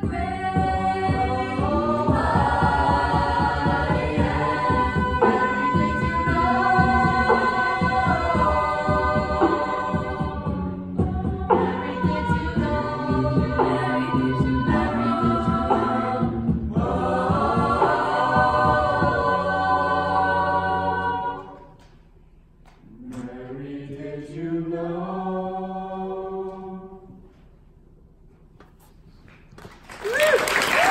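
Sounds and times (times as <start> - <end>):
choir singing chords: 0.0 - 21.8, 22.9 - 27.2.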